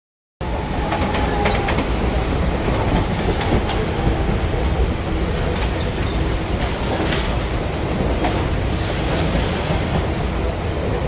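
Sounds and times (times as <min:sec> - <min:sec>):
electric train rumble: 0:00.4 - 0:11.0.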